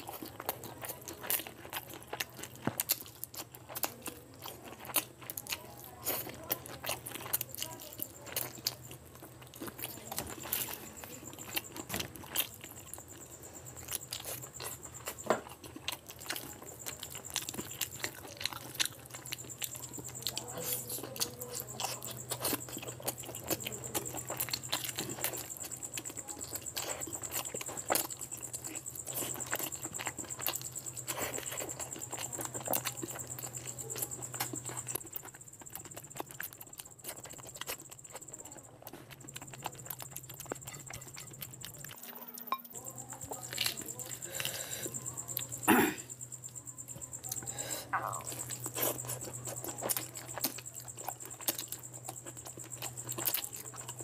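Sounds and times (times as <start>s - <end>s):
chewing and mouth smacks: 0.0s - 54.0s.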